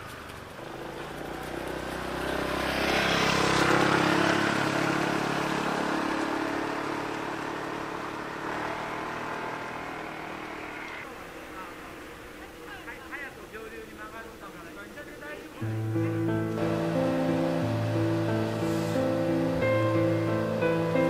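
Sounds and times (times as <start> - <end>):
vehicle driving past: 0.0 - 12.4, 15.6 - 21.0.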